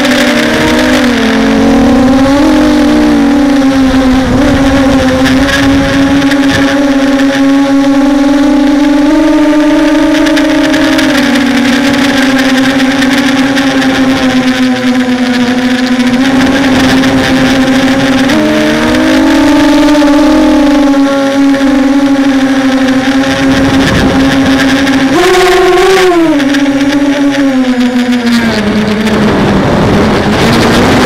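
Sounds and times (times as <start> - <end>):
drone motors whining: 0.0 - 31.0
gusty wind: 0.0 - 31.0.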